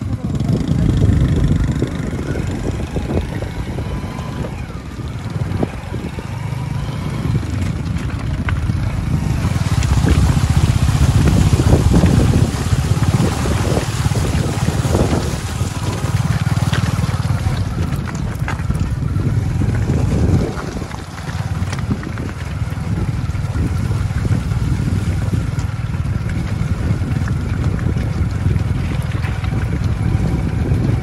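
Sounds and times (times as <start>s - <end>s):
vehicle engine running: 0.0s - 31.0s
wind buffeting microphone: 0.0s - 31.0s.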